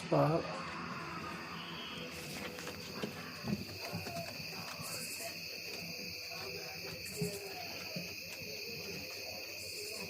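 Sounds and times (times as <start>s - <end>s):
night insects chirring: 0.0s - 10.0s
high insect chirp: 0.2s - 10.0s.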